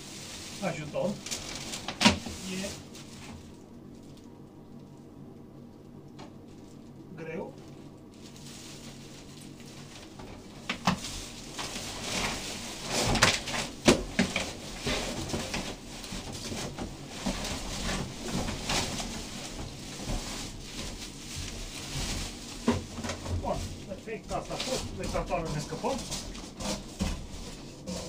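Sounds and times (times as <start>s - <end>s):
plastic and cardboard rustling: 0.0s - 4.3s, 6.3s - 28.0s.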